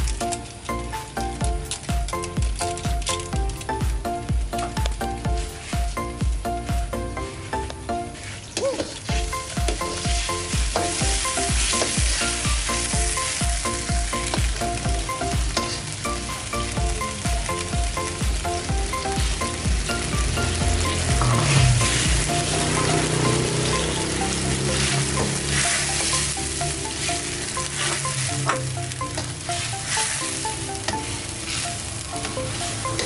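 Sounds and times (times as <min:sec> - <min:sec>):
background music with a beat: 0:00.0 - 0:08.4, 0:09.0 - 0:33.0
sauce sizzling in a wok: 0:00.0 - 0:33.0.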